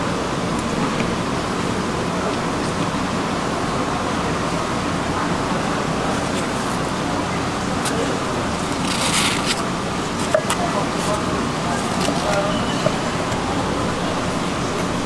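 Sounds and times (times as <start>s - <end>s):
hubbub of indistinct voices: 0.0s - 15.0s.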